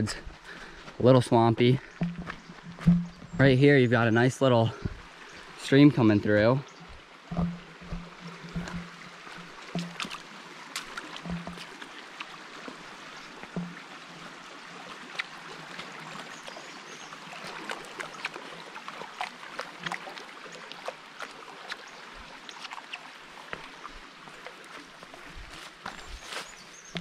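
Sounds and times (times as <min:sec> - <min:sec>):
stream rushing over rocks: 0:03.7 - 0:27.0.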